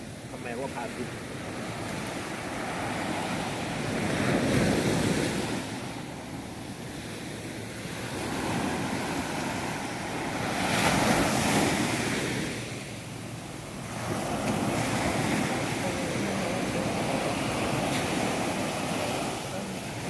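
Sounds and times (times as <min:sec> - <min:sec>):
sea surf washing onto beach: 0:00.0 - 0:20.0.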